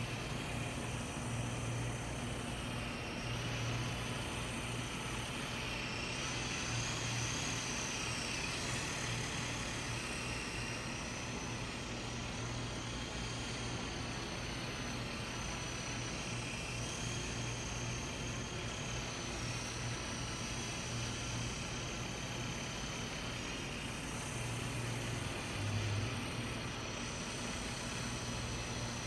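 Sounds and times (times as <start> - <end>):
toy helicopter motors whining: 0.0 - 29.0.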